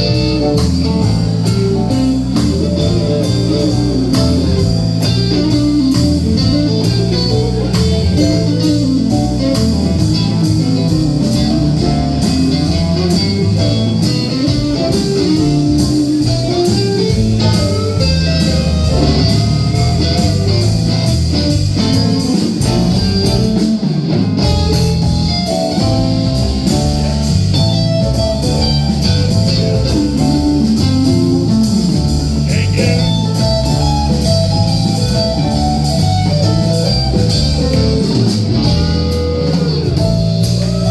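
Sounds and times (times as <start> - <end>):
electric guitar: 0.0 - 40.9
steady drum beat: 0.0 - 40.9
walking bass line: 0.0 - 40.9.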